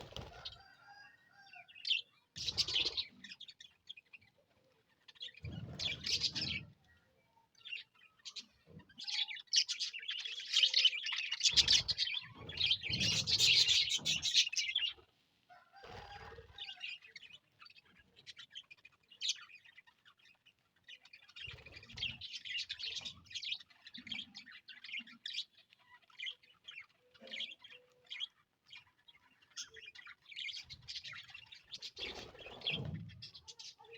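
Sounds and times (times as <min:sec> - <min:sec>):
budgerigars chirping and chattering: 0:00.0 - 0:15.0, 0:15.7 - 0:33.9.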